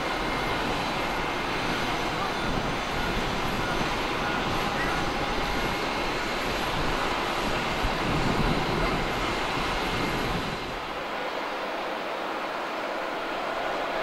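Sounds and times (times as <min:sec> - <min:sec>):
jet turbine noise: 0:00.0 - 0:14.0.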